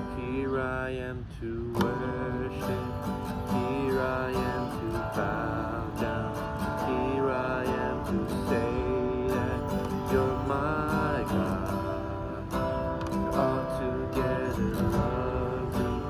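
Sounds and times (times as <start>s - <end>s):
man singing: 0.0s - 16.0s
strummed acoustic guitar: 0.0s - 16.0s.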